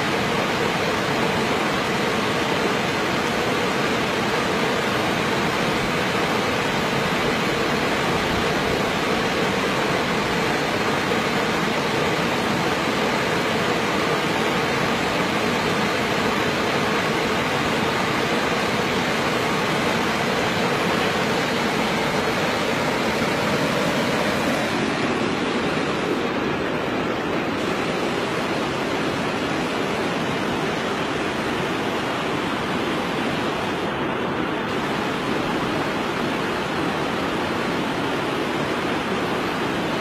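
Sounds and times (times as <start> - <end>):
waterfall roar: 0.0 - 40.0.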